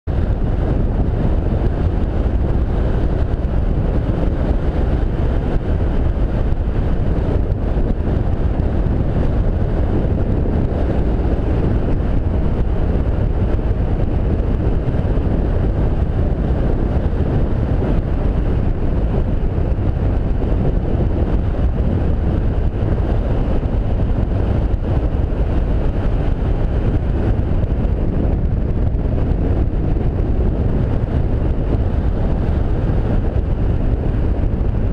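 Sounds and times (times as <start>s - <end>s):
wind rumble on microphone: 0.0s - 34.9s.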